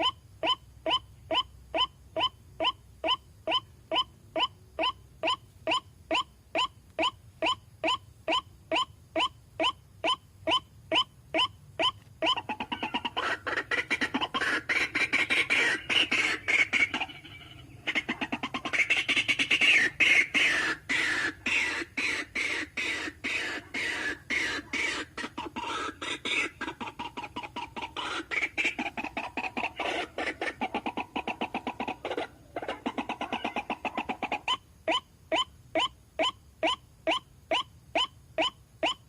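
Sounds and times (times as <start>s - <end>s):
waterhen calling: 0.0s - 39.0s.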